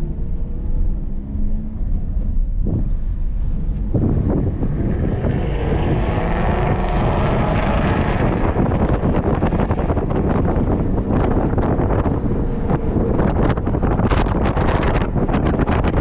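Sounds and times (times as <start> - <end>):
car engine accelerating: 0.0 - 16.0
wind buffeting microphone: 1.8 - 16.0.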